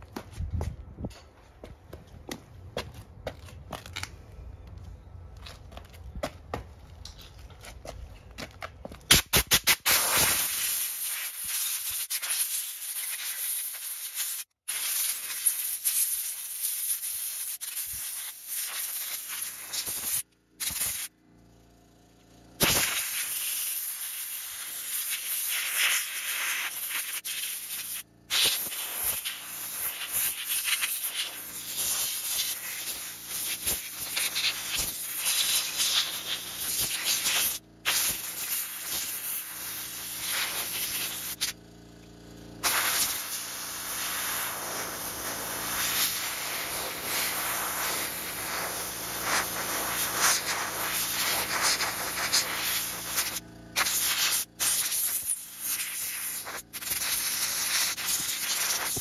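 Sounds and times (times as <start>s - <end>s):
compressed air blow gun hissing: 9.1s - 21.1s, 22.6s - 41.6s, 42.6s - 59.0s.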